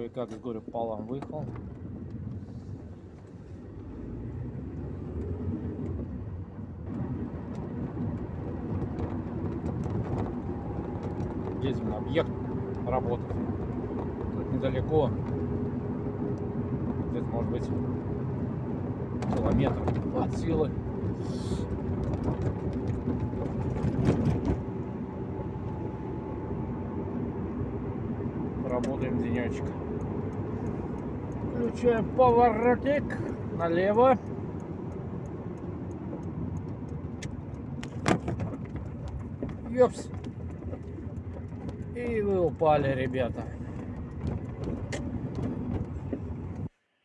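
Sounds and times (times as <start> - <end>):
car engine and tyre noise: 0.0 - 47.0.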